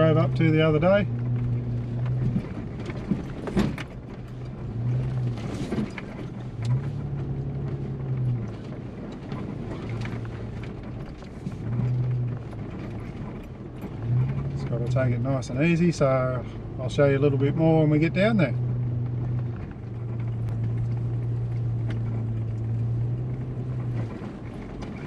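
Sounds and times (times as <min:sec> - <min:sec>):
vehicle engine low drone: 0:00.0 - 0:25.0.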